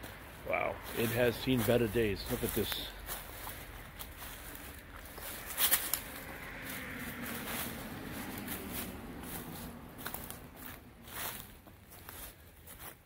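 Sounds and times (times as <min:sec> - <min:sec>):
footsteps on debris: 0:00.0 - 0:13.0
loud crunch: 0:00.0 - 0:13.0.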